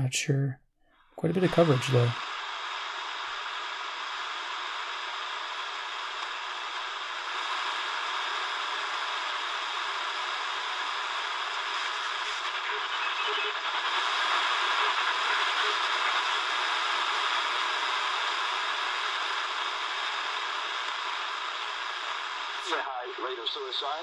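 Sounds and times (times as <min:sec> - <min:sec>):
radio static hiss: 0:01.2 - 0:24.0.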